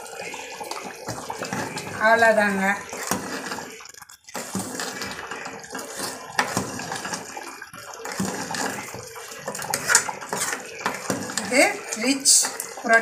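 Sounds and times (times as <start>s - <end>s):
gravy sloshing and squelching: 0.0s - 13.0s
spoon scraping metal pot: 0.2s - 13.0s.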